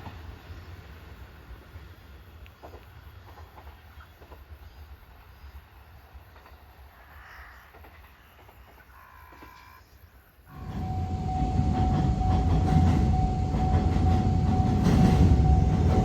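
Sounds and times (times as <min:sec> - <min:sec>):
faint low train rumble: 0:00.0 - 0:08.9, 0:10.5 - 0:16.0.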